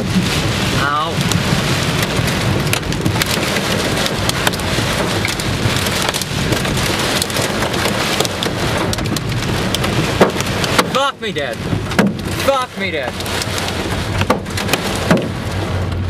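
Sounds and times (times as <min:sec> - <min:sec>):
hail hitting a car: 0:00.0 - 0:16.0
heavy rain on a car: 0:00.0 - 0:16.0.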